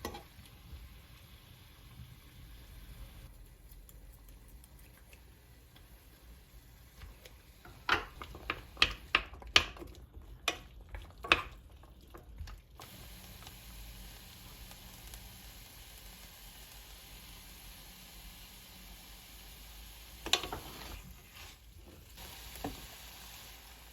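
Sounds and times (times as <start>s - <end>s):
frying sizzle: 0.0s - 3.5s, 4.4s - 23.9s.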